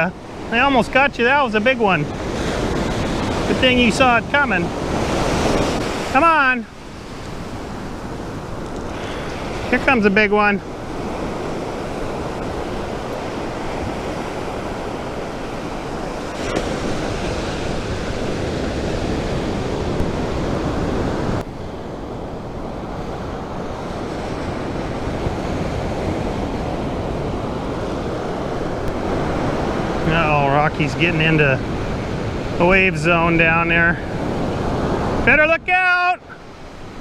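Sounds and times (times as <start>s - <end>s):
wind on microphone: 0.0s - 35.4s
ocean surf breaking on beach: 0.0s - 37.0s.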